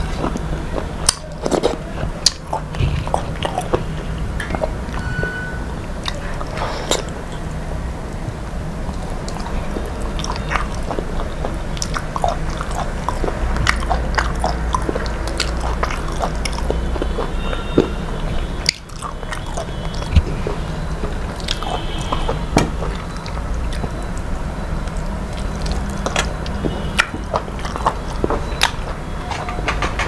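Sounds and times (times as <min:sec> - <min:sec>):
person chewing close to microphone: 0:00.0 - 0:05.1, 0:05.8 - 0:30.0
steady low hum: 0:00.0 - 0:30.0.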